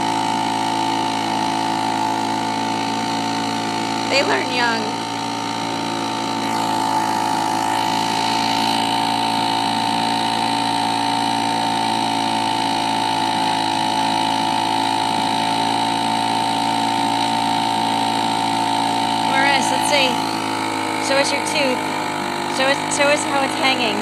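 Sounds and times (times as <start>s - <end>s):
small outboard motor running: 0.0s - 24.0s.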